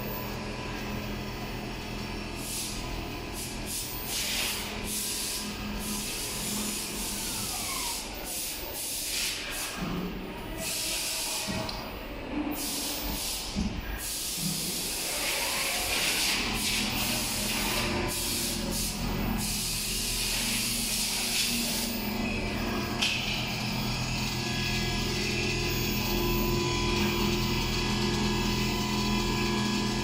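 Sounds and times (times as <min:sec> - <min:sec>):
sewing machine hissing: 0:00.0 - 0:09.8, 0:12.6 - 0:30.0.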